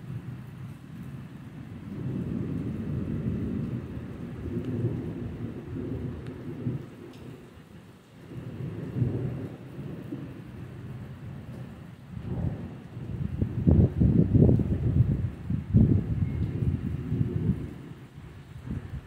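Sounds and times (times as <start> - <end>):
rain falling: 0.0 - 19.0
rolling thunder: 1.6 - 7.5, 8.2 - 19.0.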